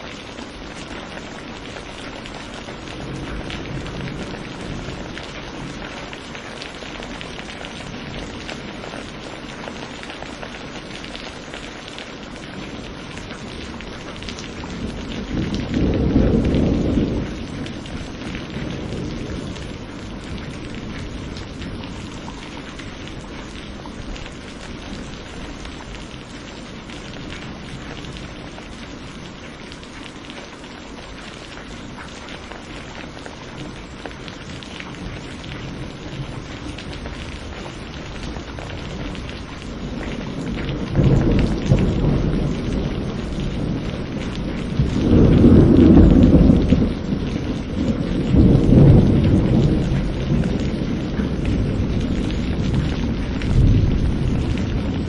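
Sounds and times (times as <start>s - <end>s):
thunder rumbling: 0.0s - 9.8s, 12.4s - 29.9s, 33.5s - 55.0s
steady rain falling: 0.0s - 55.0s.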